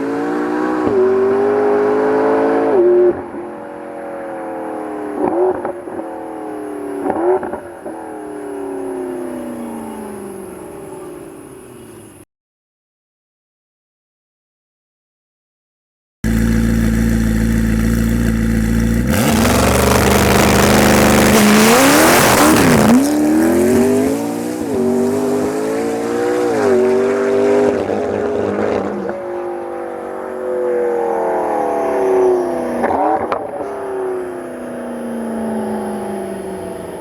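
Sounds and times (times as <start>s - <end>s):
sports car engine revving: 0.0s - 10.5s, 16.2s - 37.0s.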